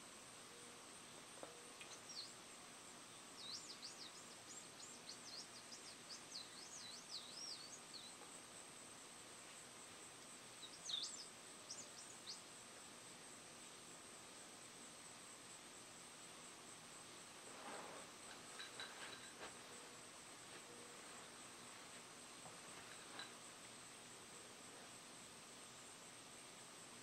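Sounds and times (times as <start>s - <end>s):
faint birdsong: 0.3s - 13.5s, 16.4s - 25.0s.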